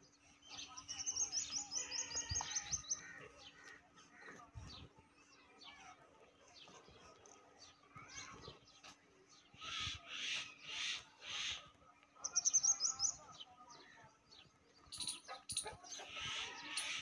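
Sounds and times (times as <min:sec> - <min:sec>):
birds chirping and calling: 0:00.0 - 0:05.8, 0:06.5 - 0:17.0.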